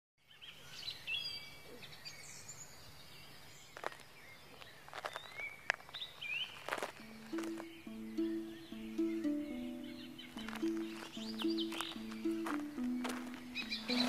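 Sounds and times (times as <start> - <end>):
birds chirping and whistling: 0.3 - 14.0.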